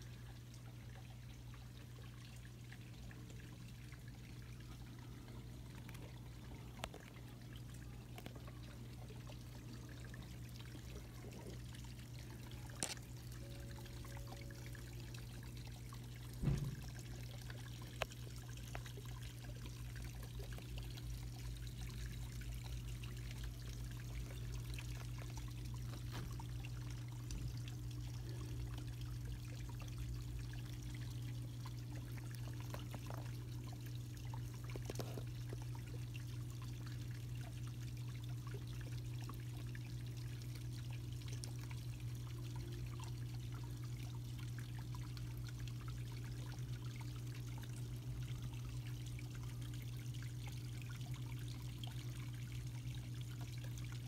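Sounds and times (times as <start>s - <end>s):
steady low hum: 0.0s - 54.0s
trickle of running water: 0.0s - 54.0s.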